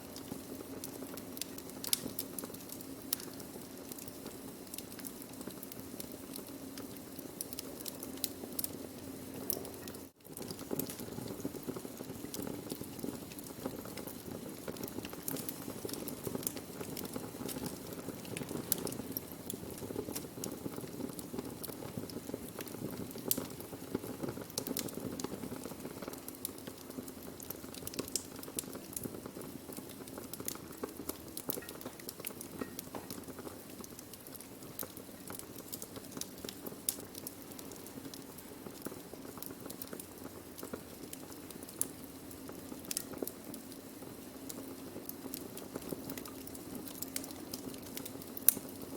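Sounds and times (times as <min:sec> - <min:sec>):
low fire hiss: 0:00.0 - 0:48.9
wood fire crackling and popping: 0:00.0 - 0:48.9.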